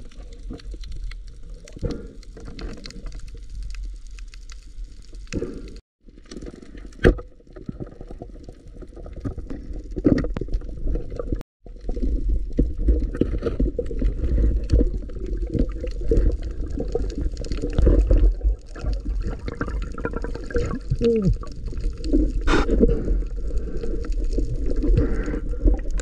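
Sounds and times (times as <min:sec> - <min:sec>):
water sloshing and bubbling: 0:00.0 - 0:26.0.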